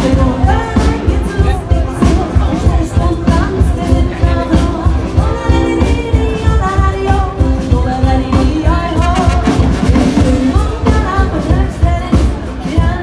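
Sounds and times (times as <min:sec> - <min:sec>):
folk band music: 0:00.0 - 0:13.0.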